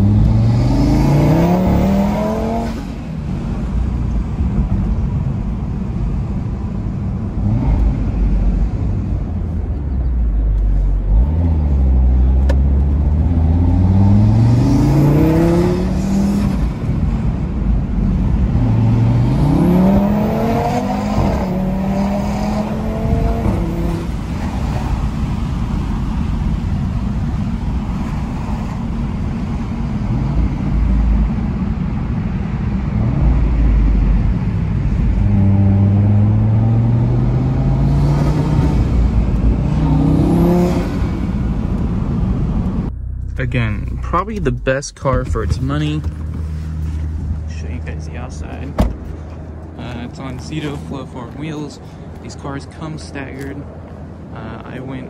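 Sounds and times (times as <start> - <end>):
car engine accelerating: 0.0 - 5.3, 7.2 - 52.4.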